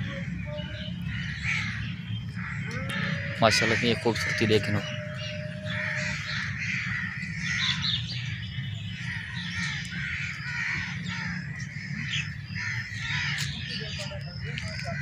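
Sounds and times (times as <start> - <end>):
birds calling: 0.0 - 15.0
steady low rumble: 0.0 - 15.0.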